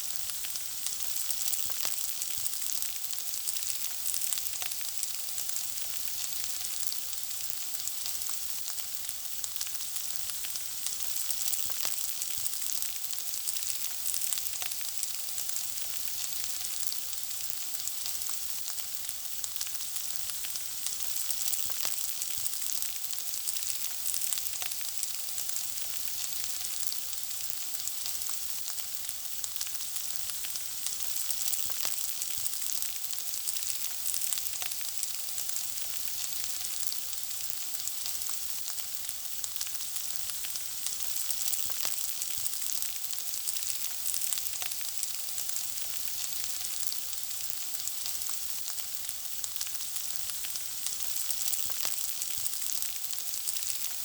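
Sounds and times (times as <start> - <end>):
food frying: 0.0 - 54.0.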